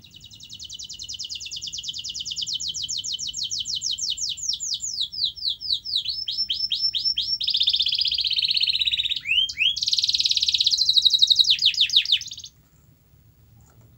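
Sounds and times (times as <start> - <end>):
canary singing: 0.0 - 12.6.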